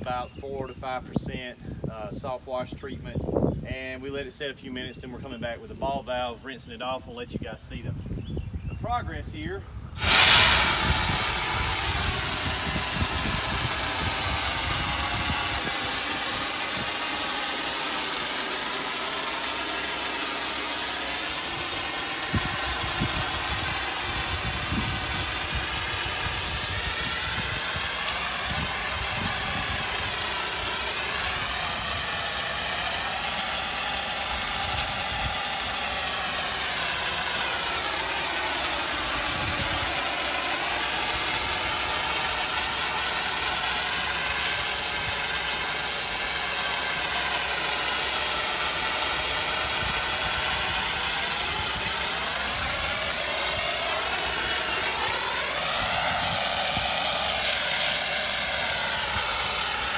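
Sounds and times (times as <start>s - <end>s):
pressure washer engine and pump: 10.0s - 59.9s
water spray hissing: 10.0s - 59.9s.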